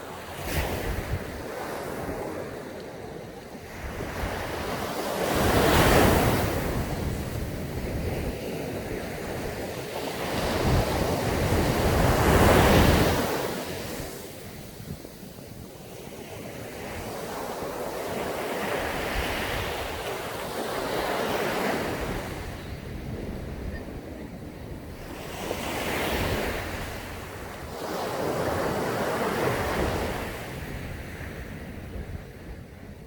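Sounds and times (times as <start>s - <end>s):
waves breaking on beach: 0.0s - 23.7s, 24.9s - 31.7s
wind on microphone: 0.0s - 33.0s.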